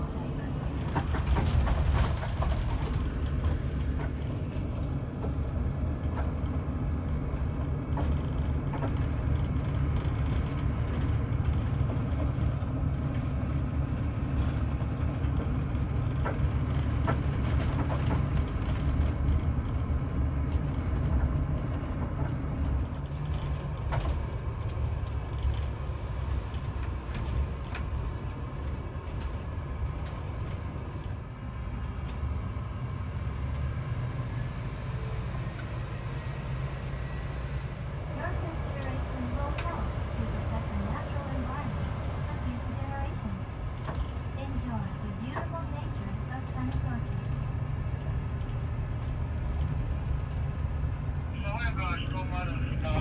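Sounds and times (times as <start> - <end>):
bus engine and tyres rumbling: 0.0 - 53.0.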